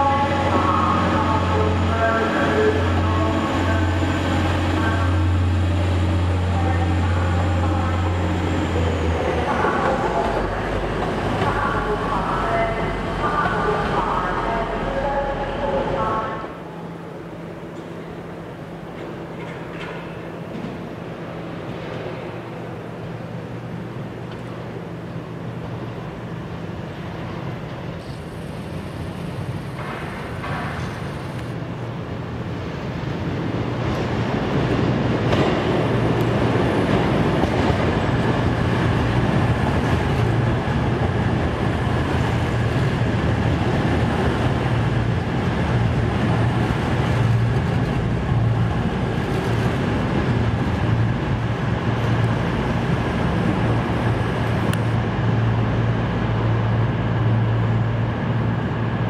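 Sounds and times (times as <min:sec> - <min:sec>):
train diesel engines droning: 0:00.0 - 0:59.0.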